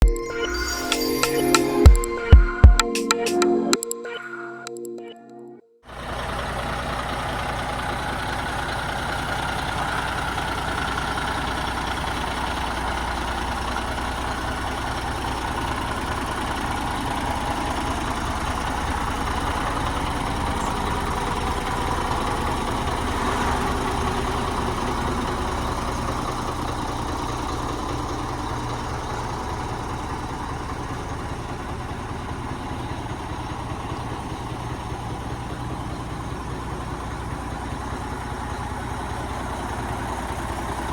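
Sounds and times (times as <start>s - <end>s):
diesel engine idling: 5.9s - 40.9s.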